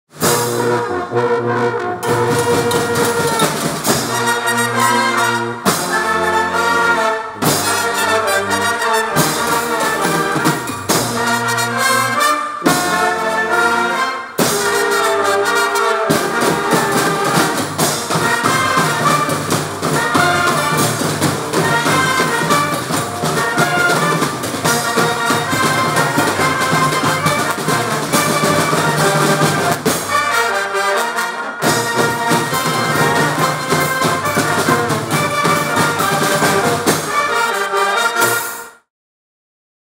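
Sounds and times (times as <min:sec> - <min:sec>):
brass band playing: 0:00.1 - 0:38.9.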